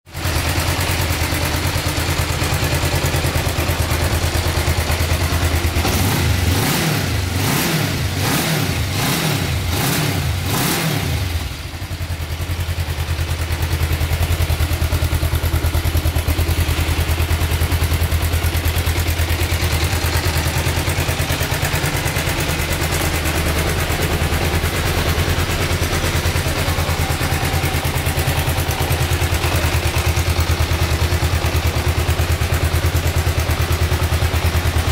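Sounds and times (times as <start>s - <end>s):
motorcycle engine idling: 0.1s - 34.9s
motorcycle engine revving: 0.1s - 34.9s.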